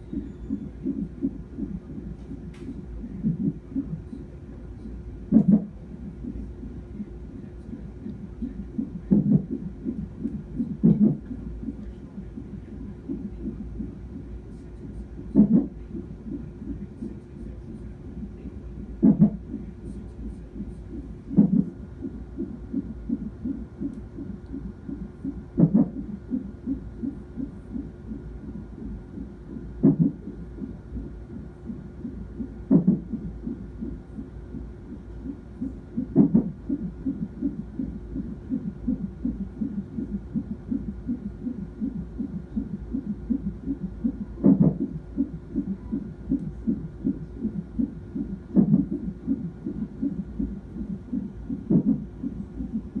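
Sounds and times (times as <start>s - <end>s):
fetal heartbeat on doppler: 0.0s - 53.0s.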